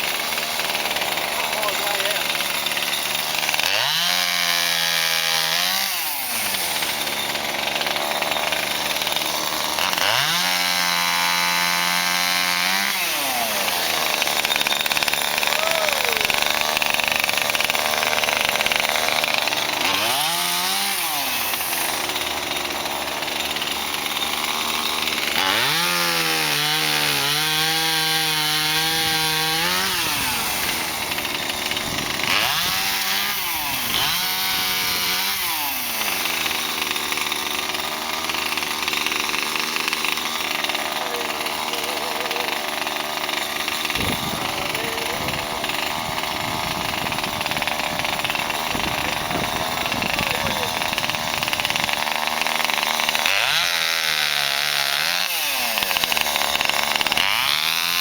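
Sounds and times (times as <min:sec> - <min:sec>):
chainsaw revving and cutting wood: 0:00.0 - 0:58.0.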